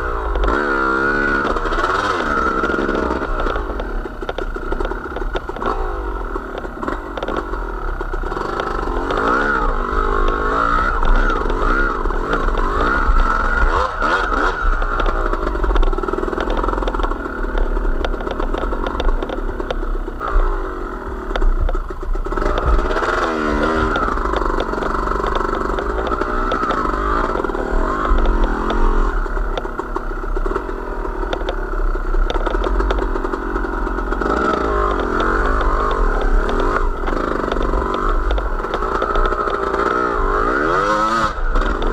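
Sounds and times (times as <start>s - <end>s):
small vehicle engine revving: 0.0s - 41.9s.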